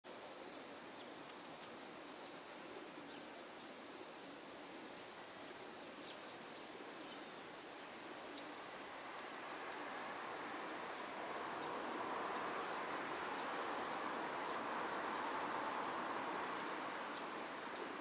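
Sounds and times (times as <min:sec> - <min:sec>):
high insect drone: 0:00.1 - 0:18.0
steady hiss: 0:00.1 - 0:18.0.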